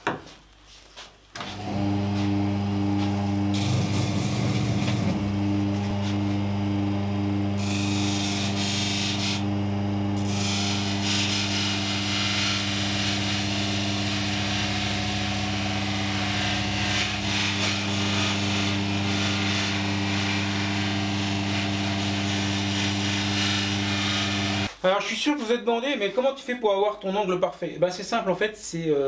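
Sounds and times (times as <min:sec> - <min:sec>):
sharpening machine humming: 0:01.4 - 0:24.7.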